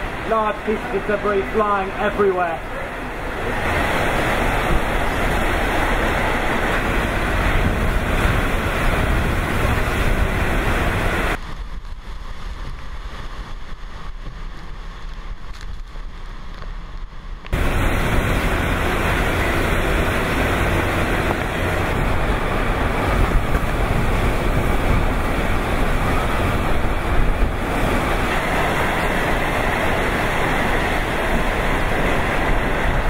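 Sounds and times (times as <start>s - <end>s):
driving rain: 0.0s - 33.0s
strong wind on microphone: 0.0s - 33.0s.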